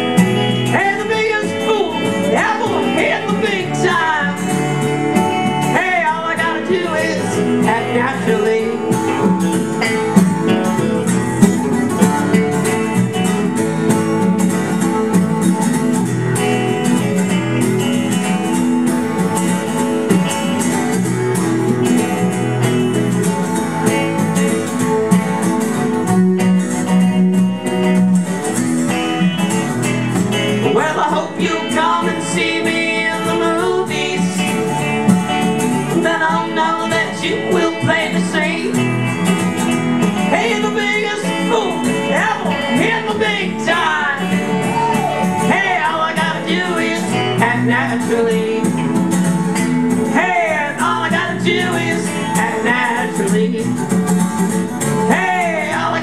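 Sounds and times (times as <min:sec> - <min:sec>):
bending melodic guitar lead: 0:00.0 - 0:56.0
strummed acoustic guitar: 0:00.0 - 0:56.0.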